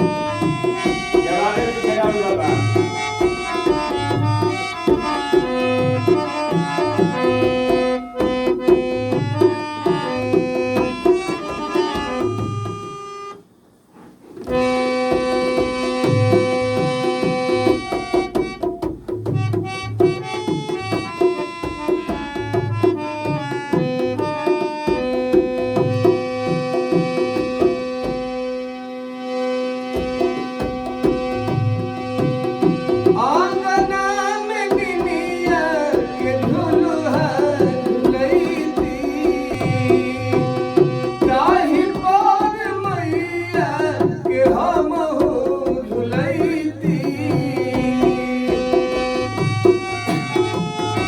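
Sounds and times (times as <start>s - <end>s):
tabla hand drumming: 0.0s - 13.3s, 14.5s - 51.0s.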